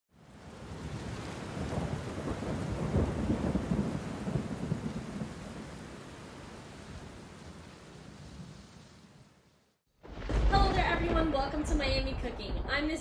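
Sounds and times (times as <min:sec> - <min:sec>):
rain hissing: 0:00.1 - 0:11.0
low thunder rumble: 0:00.3 - 0:08.6, 0:10.0 - 0:13.0.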